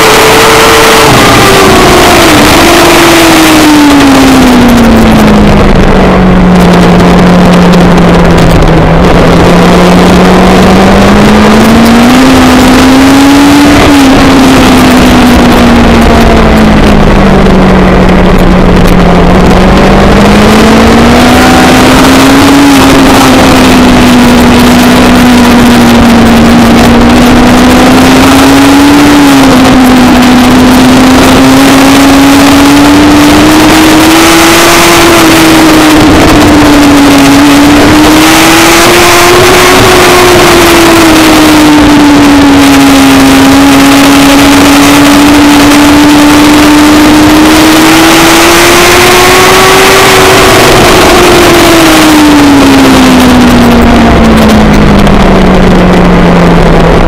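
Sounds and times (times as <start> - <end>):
race car engine: 0.0 - 57.0
road noise: 0.0 - 57.0
wind noise: 0.0 - 57.0.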